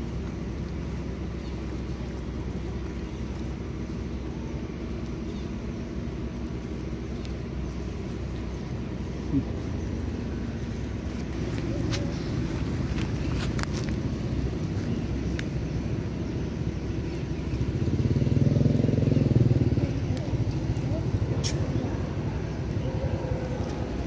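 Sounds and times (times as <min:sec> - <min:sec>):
dry leaves crackling underfoot: 0:00.0 - 0:24.0
low outdoor rumble: 0:00.0 - 0:24.0.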